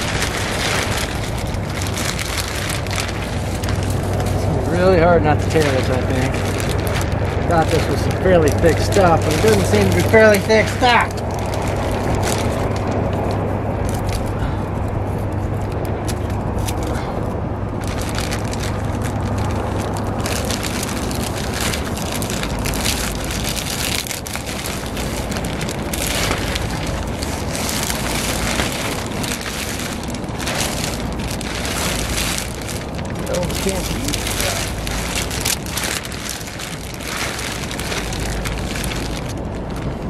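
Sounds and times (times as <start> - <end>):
plastic sheeting crinkling: 0.0 - 40.0
wind rumble on microphone: 0.0 - 40.0.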